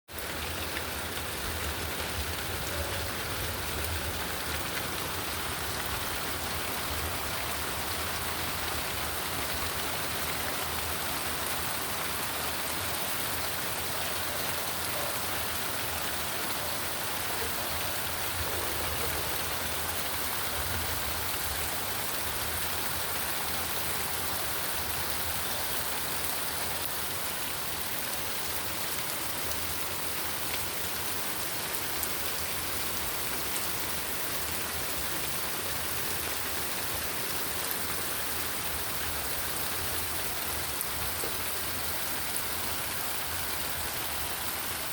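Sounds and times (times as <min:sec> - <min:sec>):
steady rain falling: 0:00.1 - 0:44.9.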